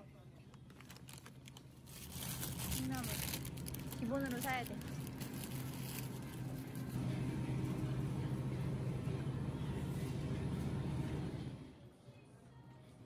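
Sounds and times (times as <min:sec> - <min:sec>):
steady low hum: 0:00.2 - 0:12.1.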